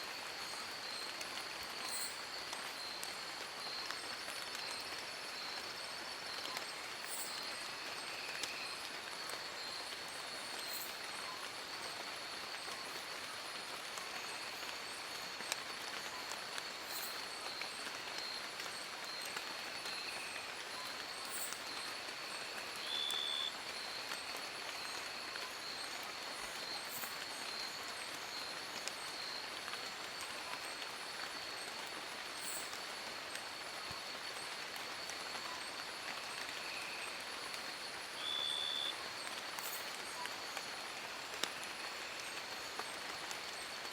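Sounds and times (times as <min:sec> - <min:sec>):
rain falling in forest: 0:00.0 - 0:43.9.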